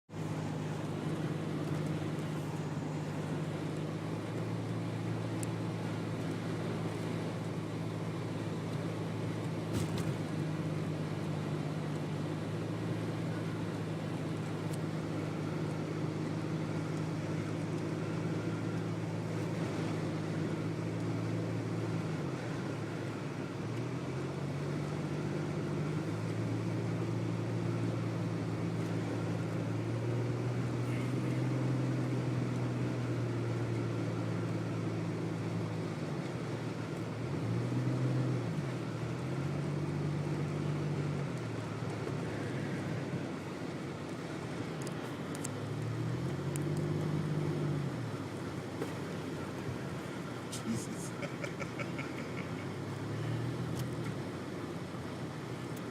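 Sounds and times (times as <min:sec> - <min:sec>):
road noise hiss: 0:00.1 - 0:55.9
vehicle engine running: 0:00.1 - 0:55.9.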